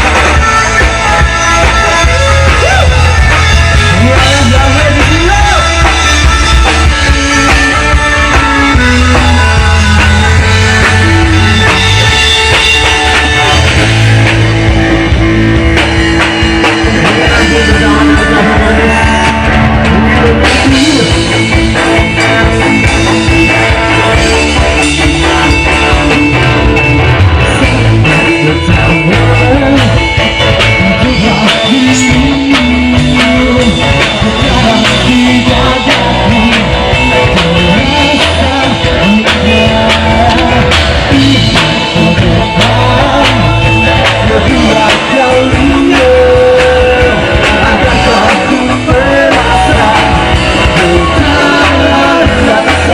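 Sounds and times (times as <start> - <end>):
person singing: 0.0 - 14.6, 16.2 - 52.9
rock band playing: 0.0 - 52.9.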